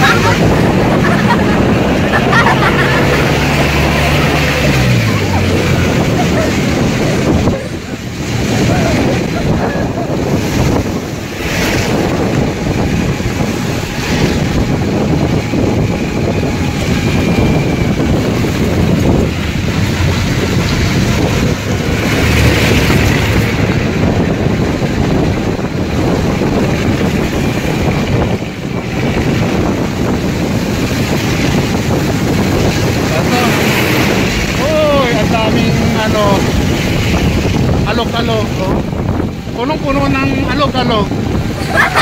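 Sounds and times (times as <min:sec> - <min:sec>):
scooter engine: 0:00.0 - 0:37.9
road noise: 0:00.0 - 0:42.0
wind rushing over microphone: 0:00.0 - 0:42.0.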